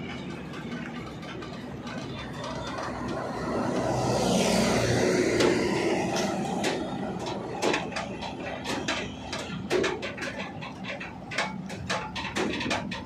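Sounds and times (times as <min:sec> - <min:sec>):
road noise of passing vehicle: 0:00.0 - 0:13.0
sharp clicks and knocks: 0:00.0 - 0:13.0.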